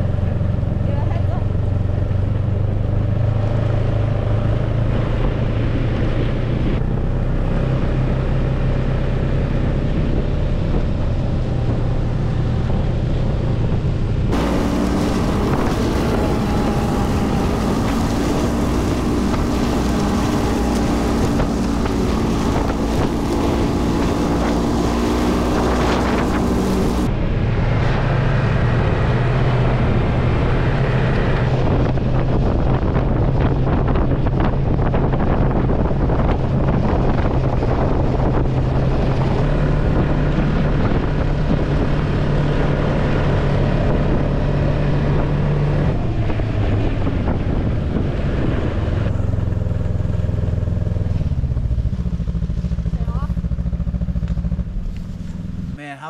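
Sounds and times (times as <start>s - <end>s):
snowmobile engine running: 0.0s - 55.8s
wind noise on microphone: 0.0s - 55.8s.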